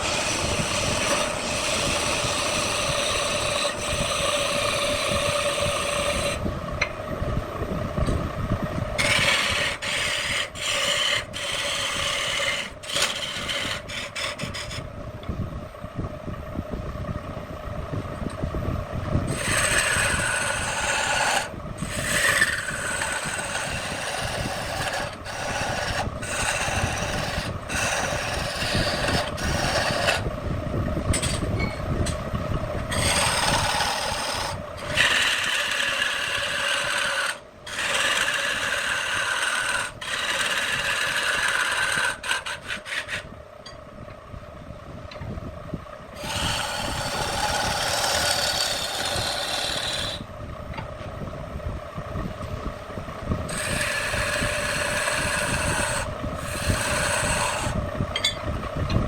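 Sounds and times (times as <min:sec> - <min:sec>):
tool scraping spinning wood: 0:00.0 - 0:06.6, 0:08.0 - 0:15.0, 0:18.8 - 0:43.8, 0:46.1 - 0:50.9, 0:52.4 - 0:59.0
lathe humming: 0:00.0 - 0:43.9, 0:45.8 - 0:51.1, 0:51.8 - 0:59.0.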